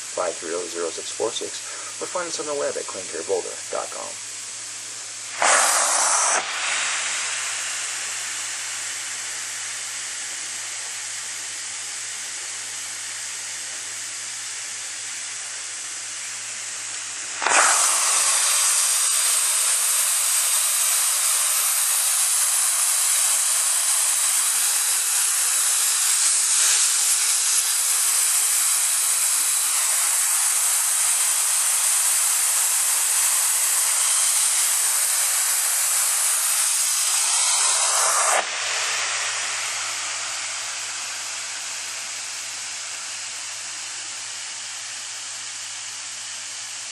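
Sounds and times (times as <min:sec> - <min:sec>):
vacuum suction hiss: 0:00.0 - 0:46.9.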